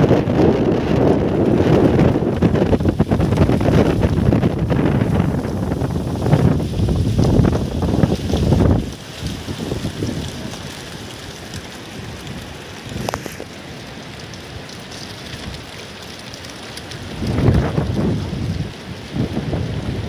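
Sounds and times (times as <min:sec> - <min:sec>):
wind driving sand with hiss: 0:00.0 - 0:20.0
wind gusting against microphone: 0:00.0 - 0:20.0.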